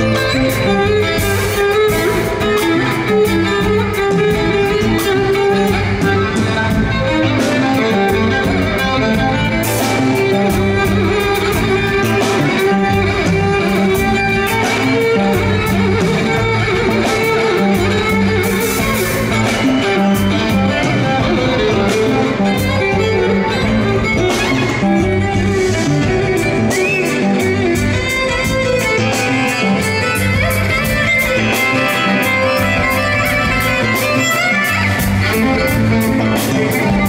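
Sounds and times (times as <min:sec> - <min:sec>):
electric bass guitar: 0:00.0 - 0:37.0
rock band playing: 0:00.0 - 0:37.0
violin solo: 0:00.0 - 0:37.0.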